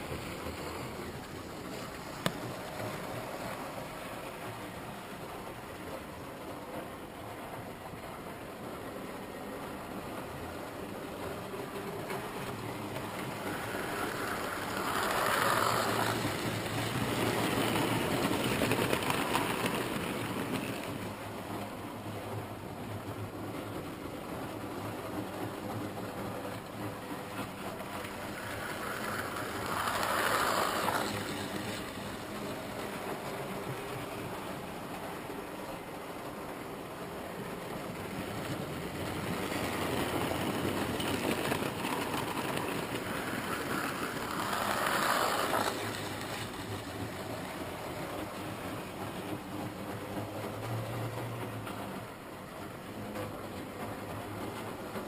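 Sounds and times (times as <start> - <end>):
model train wheels on track: 0.0 - 55.0.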